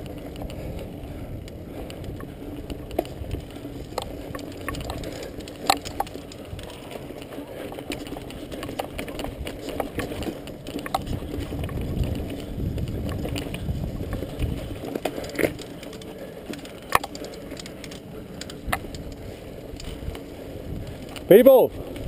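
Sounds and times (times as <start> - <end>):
bike frame knocks and clicks: 0.0 - 22.0
mountain bike rumbling on dirt trail: 0.0 - 22.0.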